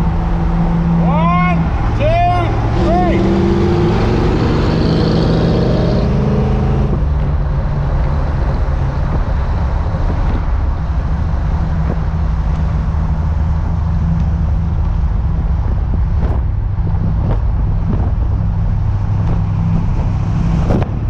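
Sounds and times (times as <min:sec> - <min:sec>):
car engine running: 0:00.0 - 0:21.0
road and wind noise: 0:00.0 - 0:21.0.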